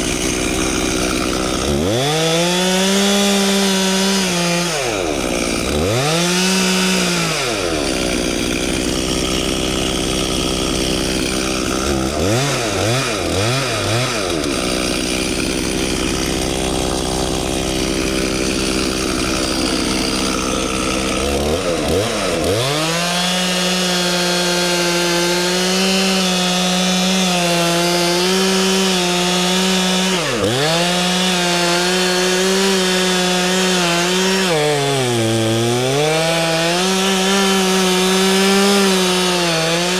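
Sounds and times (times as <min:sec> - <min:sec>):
chainsaw cutting into tree: 0:00.0 - 0:39.9
chainsaw throttle blips: 0:00.0 - 0:39.9.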